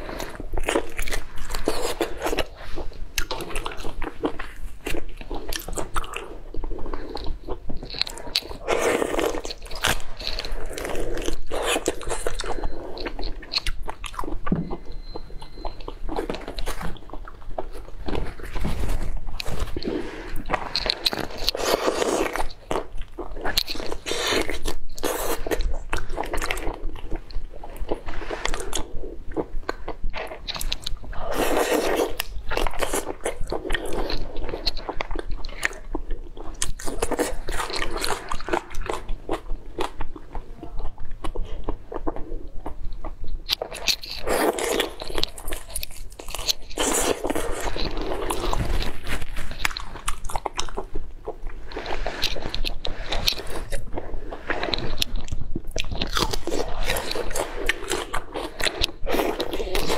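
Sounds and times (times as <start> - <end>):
prawn shell crunching between teeth: 0.0 - 40.4, 43.0 - 59.9.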